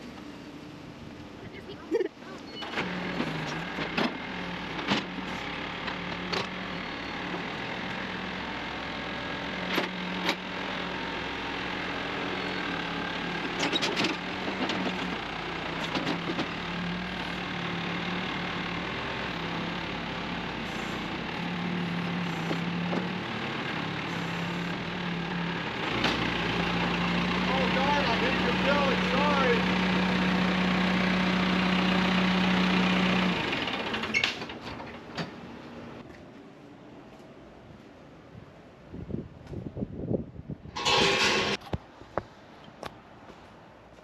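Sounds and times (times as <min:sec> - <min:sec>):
diesel engine running: 0:00.0 - 0:36.1.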